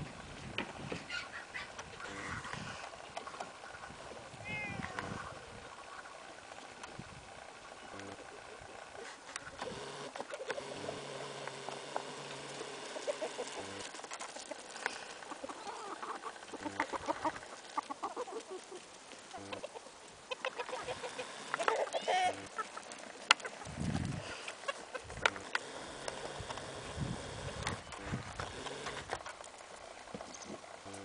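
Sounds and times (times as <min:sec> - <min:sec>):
chickens clucking: 0:00.9 - 0:31.0.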